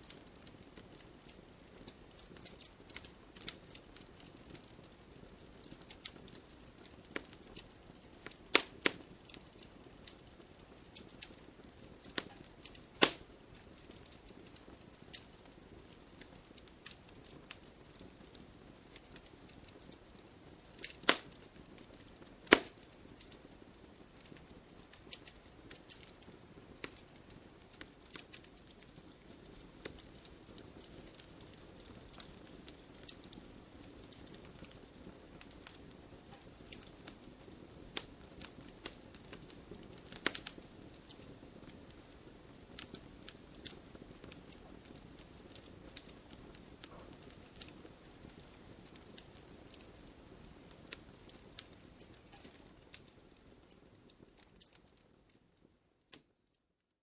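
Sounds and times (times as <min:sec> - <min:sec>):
campfire crackling: 0:00.0 - 0:56.4.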